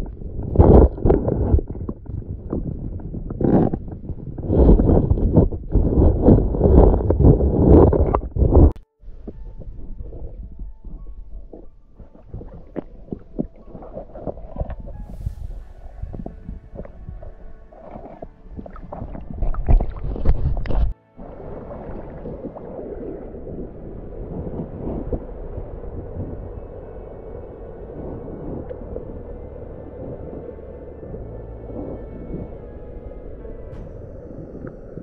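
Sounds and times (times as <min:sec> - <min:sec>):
steady low rumble: 0:00.0 - 0:35.0
water sloshing and splashing: 0:00.0 - 0:35.0.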